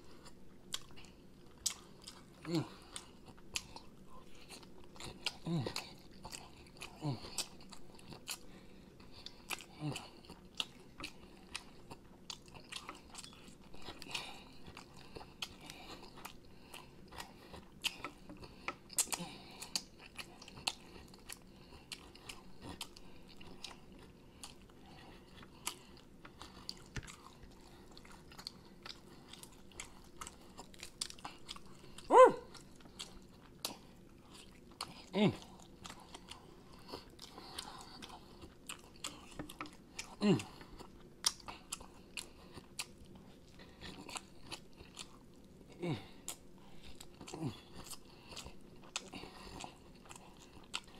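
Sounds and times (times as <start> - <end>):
wet chewing and lip-smacking: 0.0 - 50.9.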